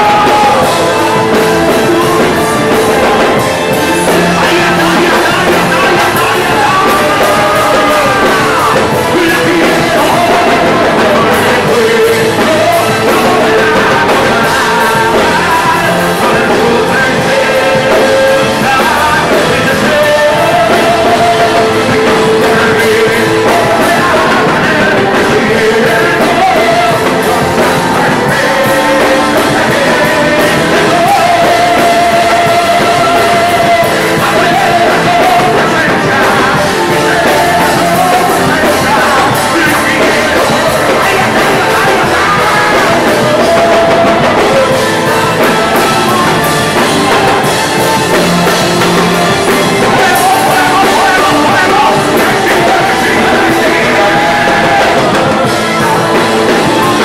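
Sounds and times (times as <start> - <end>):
full band playing: 0.0 - 57.0
man singing loudly: 0.0 - 57.0.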